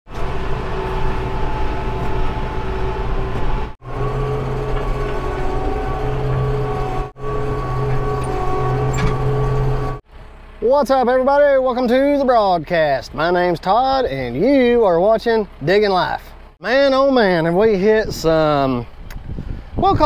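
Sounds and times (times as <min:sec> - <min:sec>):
construction machine engine whining: 0:00.1 - 0:20.0.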